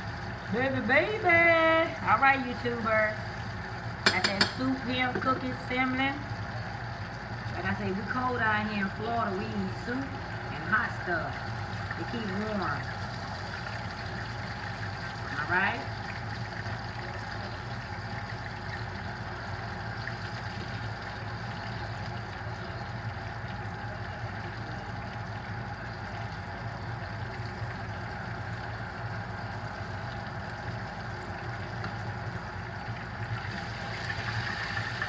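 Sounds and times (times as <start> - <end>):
constant low hum: 0.0 - 35.0
food sizzling in oil: 0.0 - 35.0.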